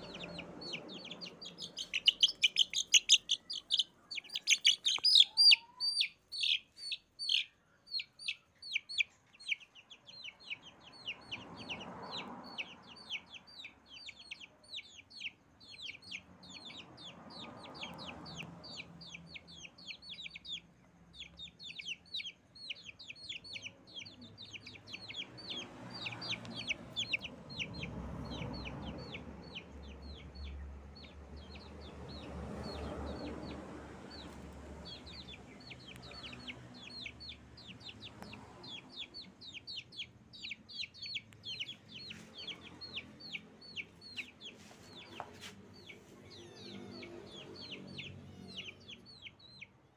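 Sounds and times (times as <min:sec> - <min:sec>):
chicks peeping: 0:00.0 - 0:49.8.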